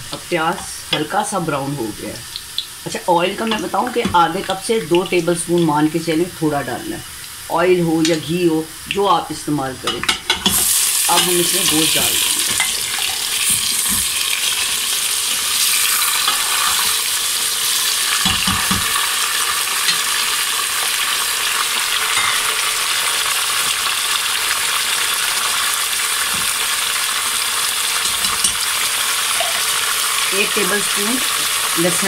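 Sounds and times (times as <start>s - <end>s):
meat sizzling in hot oil: 0.0s - 32.0s.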